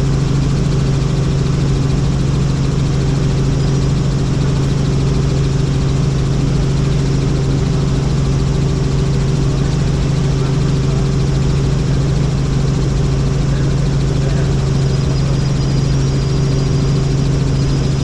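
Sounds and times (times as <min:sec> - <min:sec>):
helicopter engine and rotors: 0:00.0 - 0:18.0.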